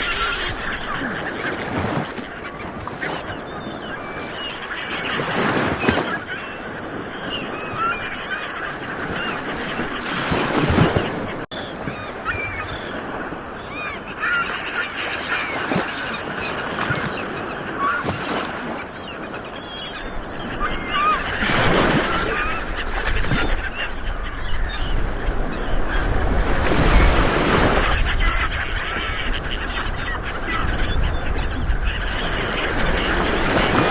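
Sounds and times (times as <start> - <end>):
birds honking: 0.0 - 33.9
ocean waves washing on shore: 0.0 - 33.9.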